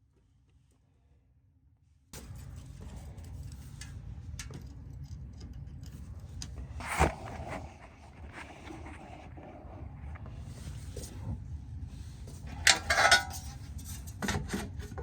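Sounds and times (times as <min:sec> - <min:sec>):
low steady hum: 0:02.2 - 0:15.0.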